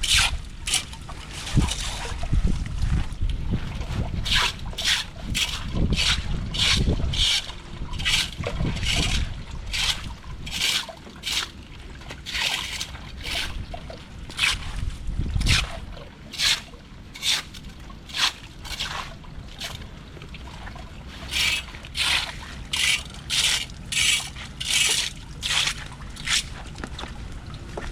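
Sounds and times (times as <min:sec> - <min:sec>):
water splashing and sloshing: 0:00.0 - 0:27.9.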